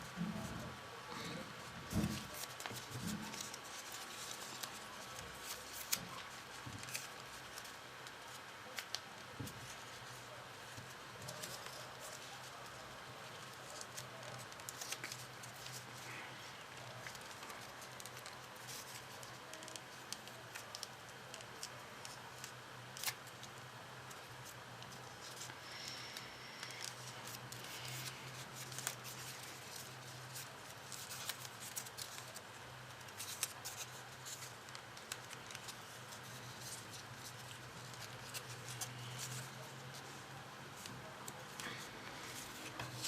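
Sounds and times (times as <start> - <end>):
paper crinkling: 1.1 - 43.0.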